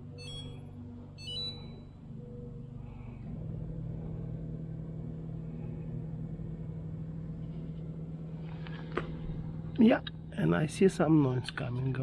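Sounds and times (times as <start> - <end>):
dishwasher motor hum: 0.0 - 12.0.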